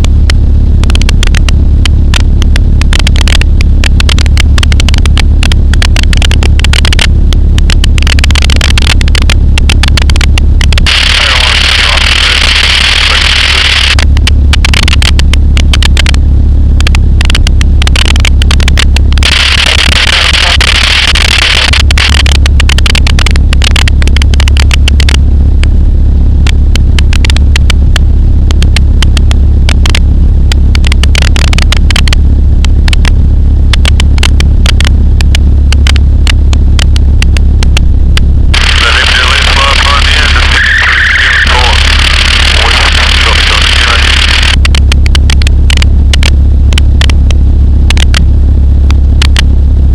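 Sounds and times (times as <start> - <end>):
dense irregular crackle: 0.0 - 49.9
microlight engine droning: 0.0 - 49.9.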